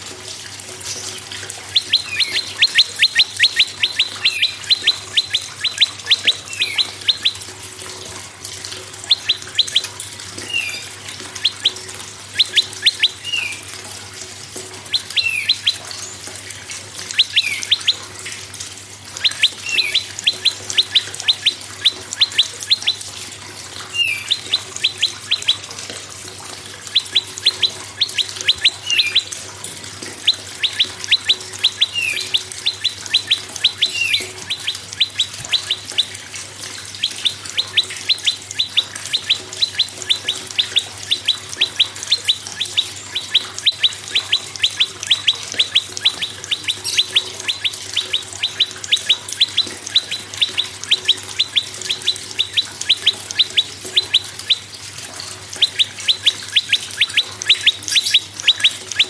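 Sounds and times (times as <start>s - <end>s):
bird singing rattling notes: 0.8s - 13.8s, 14.8s - 59.0s
low slurred bird notes: 0.8s - 59.0s.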